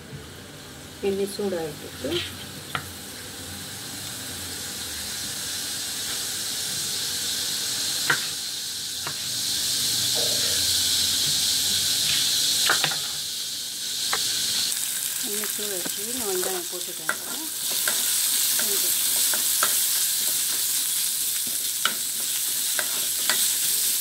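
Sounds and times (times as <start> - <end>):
oil hissing in a pan: 2.0 - 24.0.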